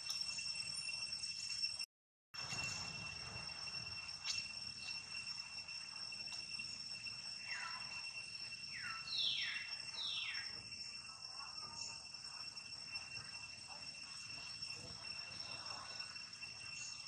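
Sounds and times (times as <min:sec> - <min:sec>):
crickets droning: 0:00.0 - 0:17.0.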